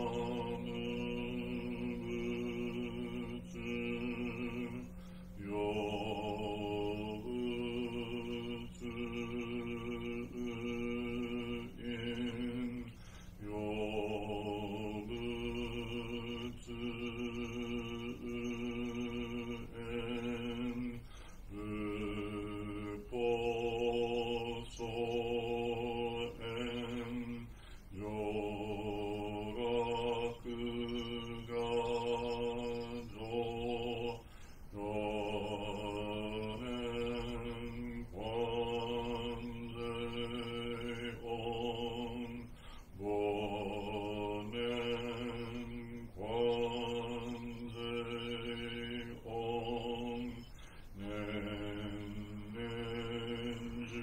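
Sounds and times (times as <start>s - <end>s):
man chanting: 0.0s - 54.0s.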